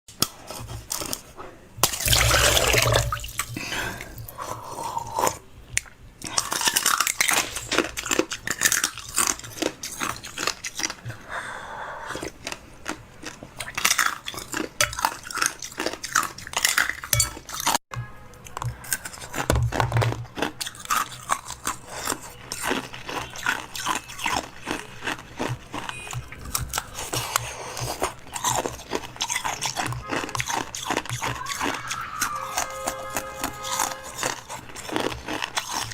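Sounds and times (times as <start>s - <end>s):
chewing and crunching food: 0.1s - 35.9s.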